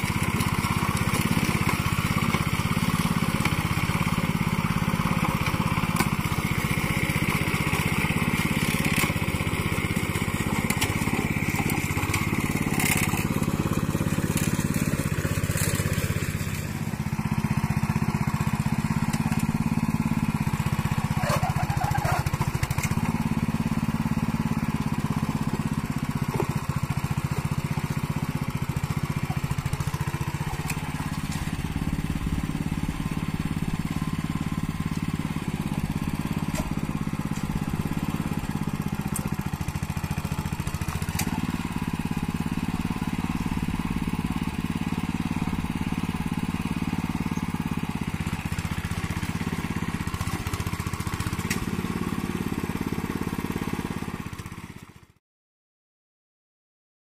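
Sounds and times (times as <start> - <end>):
small tractor engine running: 0.0 - 55.2.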